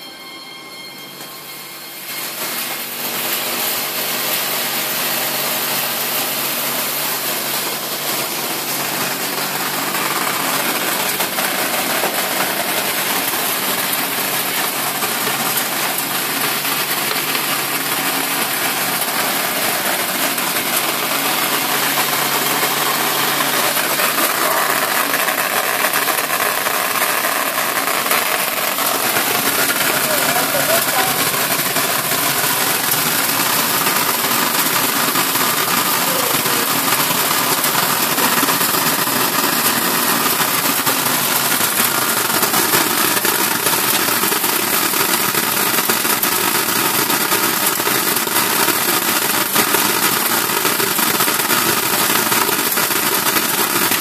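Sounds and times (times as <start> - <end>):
sorting machine humming and hissing: 0.0 - 54.0.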